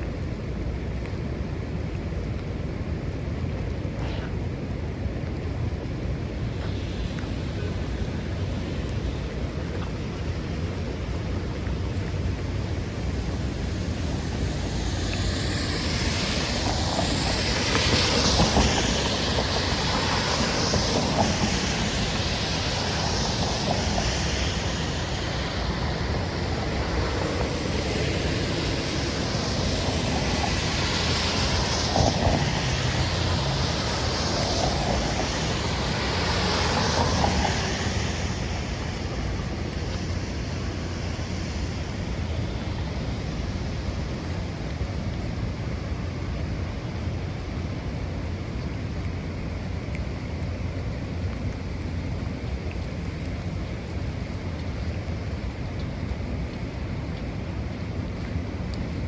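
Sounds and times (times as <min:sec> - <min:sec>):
steady traffic noise: 0:00.0 - 0:59.0
vehicles passing on wet road: 0:00.0 - 0:59.0.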